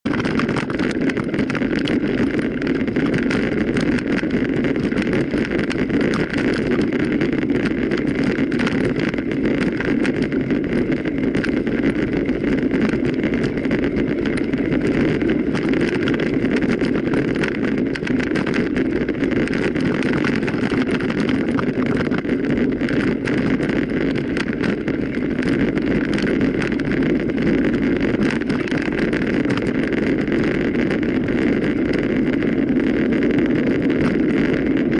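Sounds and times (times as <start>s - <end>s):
bike tyres rumbling: 0.0s - 34.9s
wind noise on microphone: 0.0s - 34.9s
small rattles and clicks: 0.1s - 34.9s.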